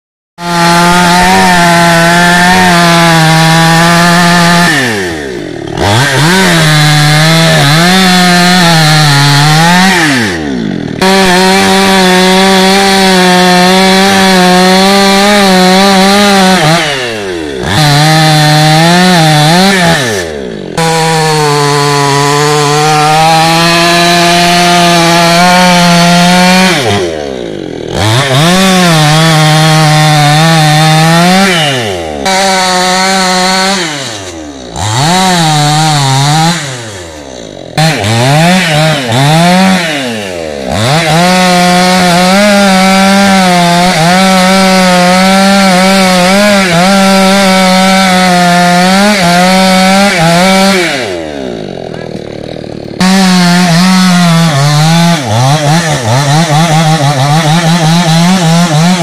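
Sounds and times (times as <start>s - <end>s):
chainsaw cutting wood: 0.4s - 59.0s.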